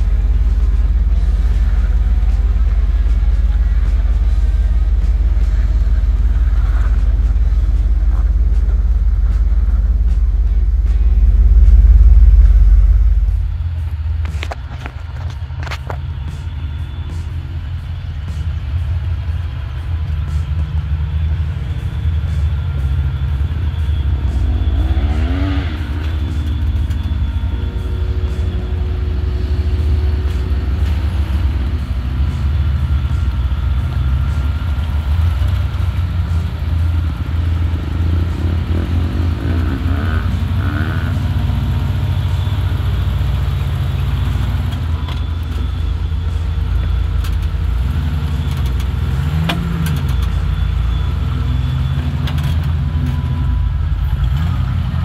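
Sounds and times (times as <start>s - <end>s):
off-road engine running and revving: 0.0s - 55.0s.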